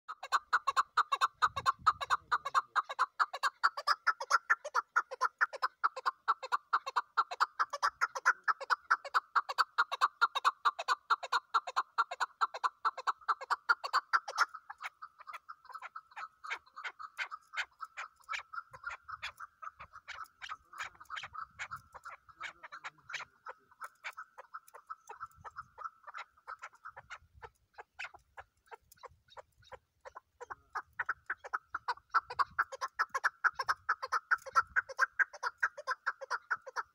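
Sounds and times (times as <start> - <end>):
partridge calling: 0.1 - 36.9.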